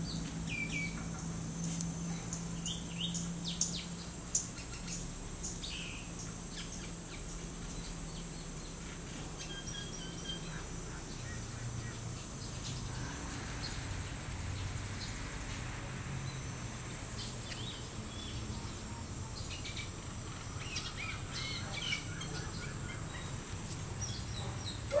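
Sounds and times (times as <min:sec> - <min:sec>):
low background hum: 0:00.0 - 0:25.0
small birds chirping: 0:00.0 - 0:25.0.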